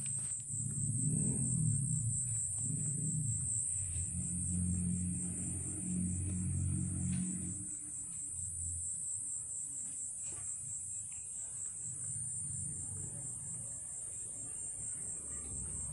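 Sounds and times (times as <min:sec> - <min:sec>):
high-pitched insect chorus: 0:00.0 - 0:15.9.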